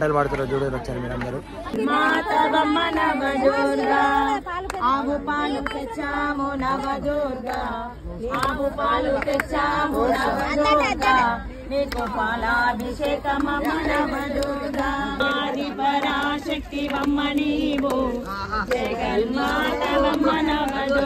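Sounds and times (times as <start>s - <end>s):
group singing devotional song: 1.6s - 21.0s.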